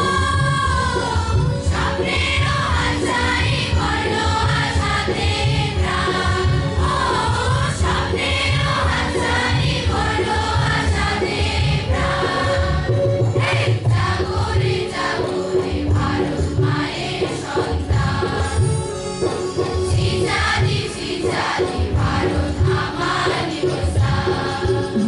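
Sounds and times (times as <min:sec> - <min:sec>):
group of voices singing: 0:00.0 - 0:18.9, 0:19.9 - 0:25.0.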